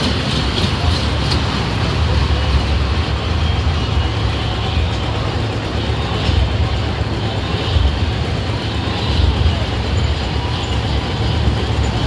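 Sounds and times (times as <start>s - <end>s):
roller coaster rumbling on steel track: 0.0s - 12.0s.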